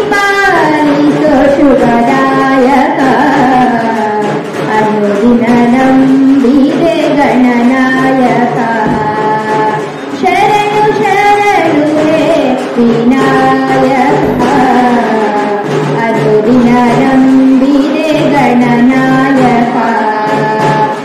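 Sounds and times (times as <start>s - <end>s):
woman singing: 0.0s - 21.0s.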